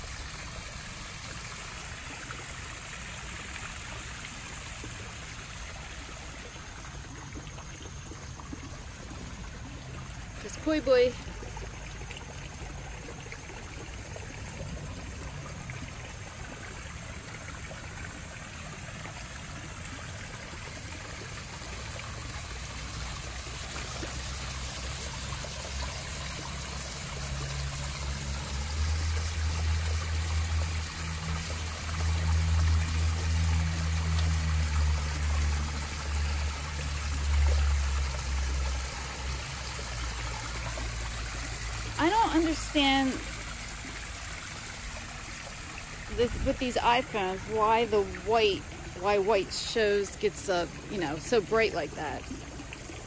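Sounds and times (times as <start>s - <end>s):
waterfall running into pond: 0.0s - 53.0s.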